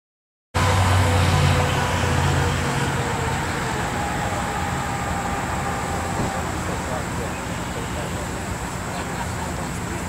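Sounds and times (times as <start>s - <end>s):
boat engine high whine: 0.6s - 10.0s.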